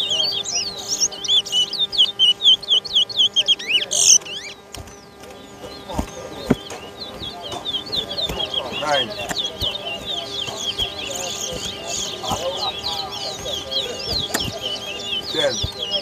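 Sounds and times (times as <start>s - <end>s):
finch twittering song: 0.0s - 16.0s.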